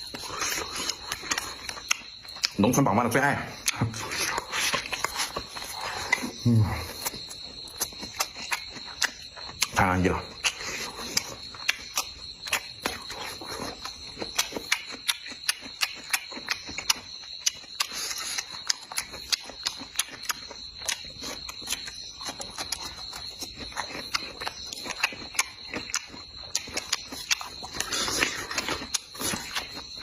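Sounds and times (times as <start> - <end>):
chewing and lip-smacking: 0.0 - 30.0.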